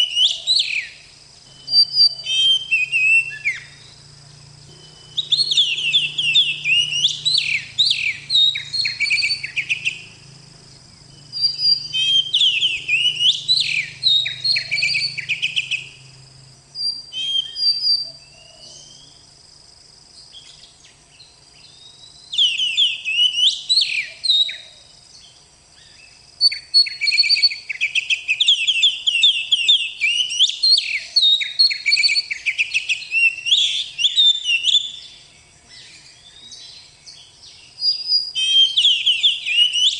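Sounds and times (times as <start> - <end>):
bird singing whistled runs: 0.0 - 19.2, 20.2 - 24.7, 25.8 - 39.9.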